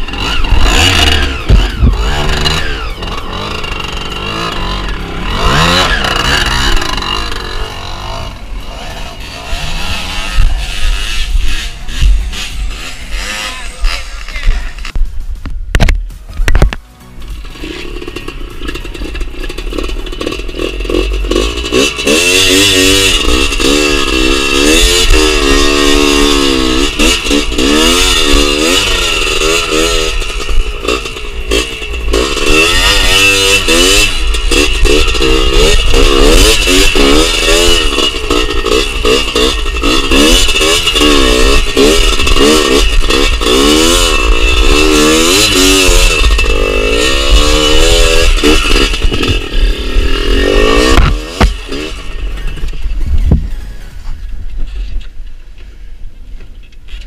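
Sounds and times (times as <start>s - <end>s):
motorcycle engine revving: 0.0s - 55.4s.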